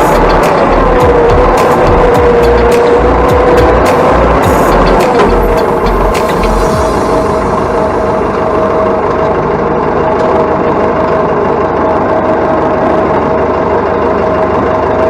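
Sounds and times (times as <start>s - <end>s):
diesel engine idling: 0.0s - 14.5s.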